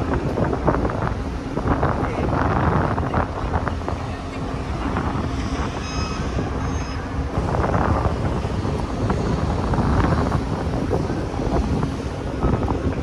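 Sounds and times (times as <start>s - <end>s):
low rumble of machinery: 0.0s - 13.0s
wind buffeting microphone: 0.0s - 13.0s.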